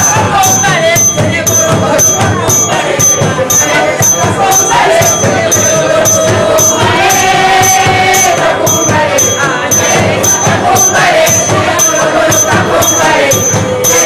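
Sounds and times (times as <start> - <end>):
congregation singing: 0.0 - 14.0
jingling percussion beat: 0.0 - 14.0.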